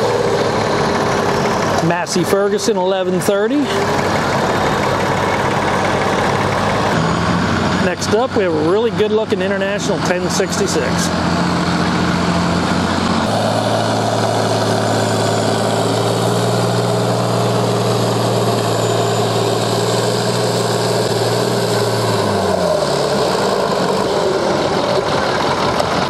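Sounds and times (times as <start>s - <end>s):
tractor diesel engine running hard: 0.0s - 26.0s.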